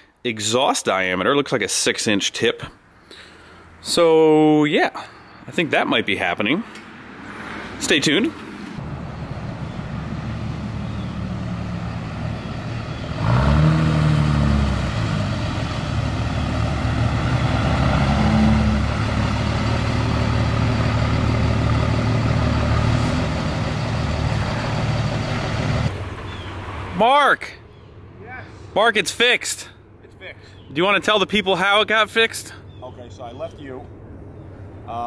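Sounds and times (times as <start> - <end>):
diesel truck engines revving: 5.4 - 35.0.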